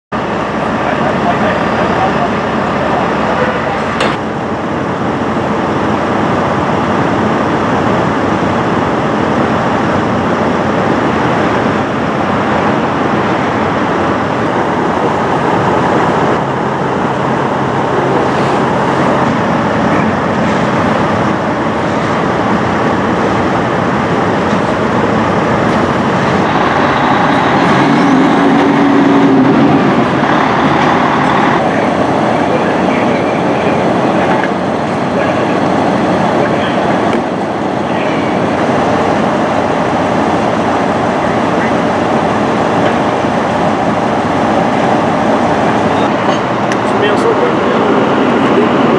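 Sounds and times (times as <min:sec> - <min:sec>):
heavy vehicle rumble: 0:00.1 - 0:48.9
low hum: 0:00.2 - 0:48.9.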